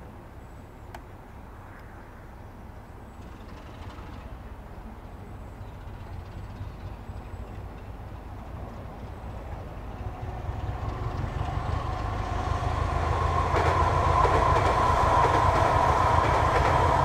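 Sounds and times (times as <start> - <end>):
diesel locomotive engines rumbling: 0.0 - 17.0.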